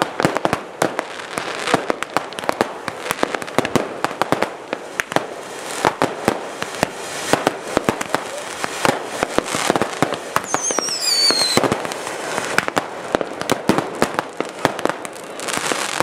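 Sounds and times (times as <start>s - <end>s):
fireworks bangs: 0.0s - 16.0s
steady hiss: 1.0s - 16.0s.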